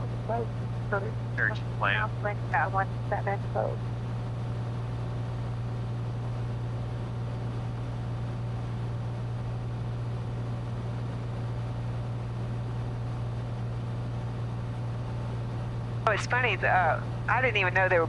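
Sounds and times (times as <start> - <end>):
light aircraft engine drone: 0.0 - 18.0.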